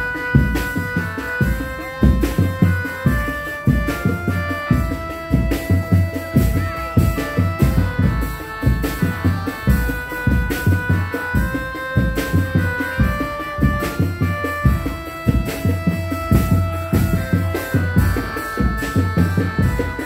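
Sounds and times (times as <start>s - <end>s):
bass drums beaten fast: 0.0s - 20.0s
held-note melody: 0.0s - 20.0s.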